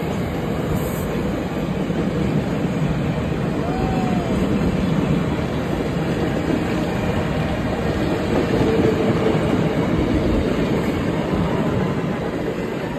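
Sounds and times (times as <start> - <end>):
train wheels clattering over rails: 0.0 - 12.9.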